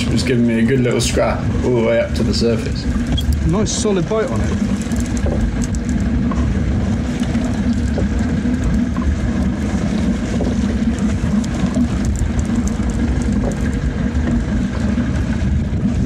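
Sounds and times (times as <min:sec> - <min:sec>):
boat engine running at low revs: 0:00.0 - 0:16.0.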